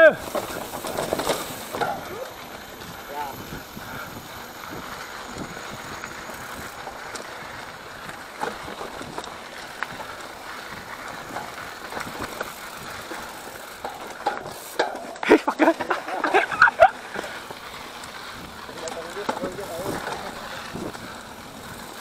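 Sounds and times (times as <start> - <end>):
bike knocking over bumps: 0.0 - 3.0, 5.3 - 22.0
bike chain and frame rattling: 0.0 - 22.0
bike tyres rolling on dirt: 0.0 - 22.0.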